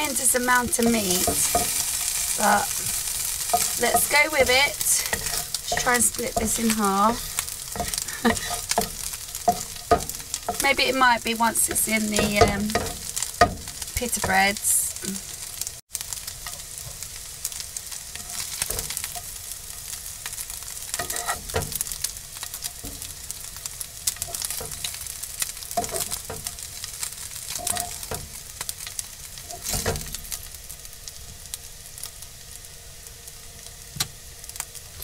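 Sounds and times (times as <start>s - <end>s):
tongs scraping and clacking on pan: 0.0s - 15.5s, 16.2s - 30.6s
meat sizzling in frying pan: 0.0s - 35.0s.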